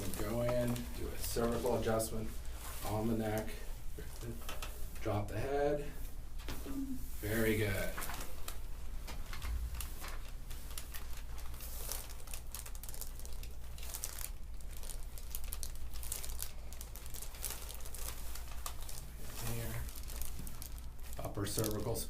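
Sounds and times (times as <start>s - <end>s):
rustling and crinkling: 0.0s - 22.0s.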